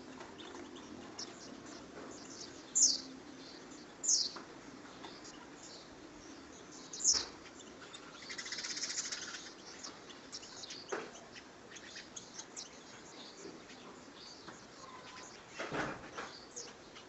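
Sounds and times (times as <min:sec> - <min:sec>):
bird buzzy chatter: 0:00.0 - 0:17.0
small birds chirping: 0:00.0 - 0:17.0.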